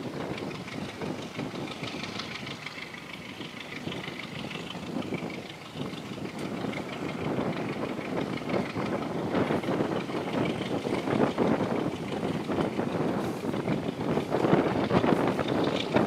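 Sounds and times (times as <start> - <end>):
rushing air: 0.0 - 16.0
train engine: 0.0 - 16.0
train wheels rumbling on rails: 0.0 - 16.0.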